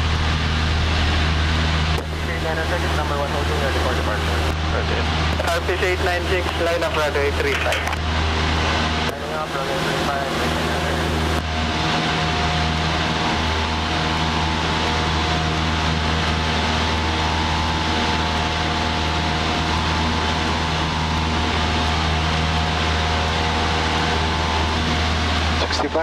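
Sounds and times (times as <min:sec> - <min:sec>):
small plane engine droning: 0:00.0 - 0:26.0.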